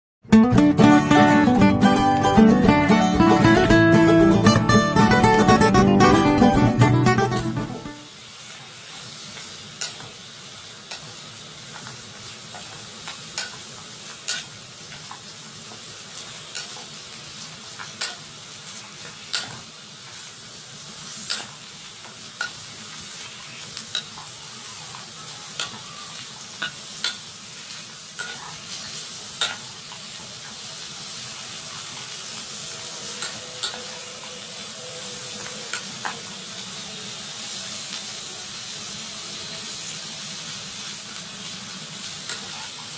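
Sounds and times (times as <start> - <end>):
vegetables sizzling in a pan: 0.8 - 42.9.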